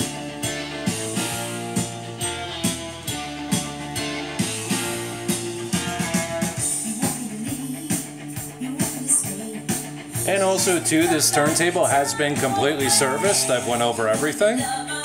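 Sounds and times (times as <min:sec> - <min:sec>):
guitar and drums music: 0:00.0 - 0:15.0.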